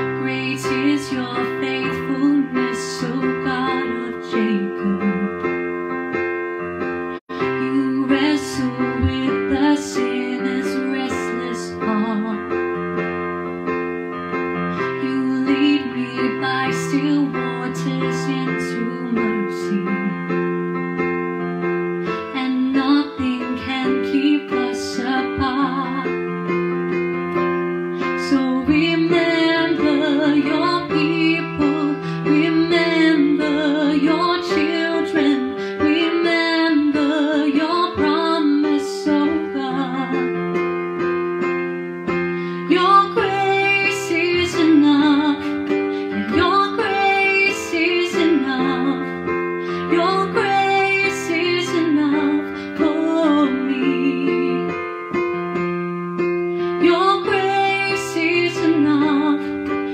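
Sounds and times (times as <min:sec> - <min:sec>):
woman singing: 0:00.0 - 0:05.7, 0:07.3 - 0:13.2, 0:14.6 - 0:20.5, 0:22.0 - 0:26.9, 0:28.0 - 0:40.8, 0:42.1 - 0:55.6, 0:56.6 - 0:59.9
piano chords: 0:00.0 - 0:59.9.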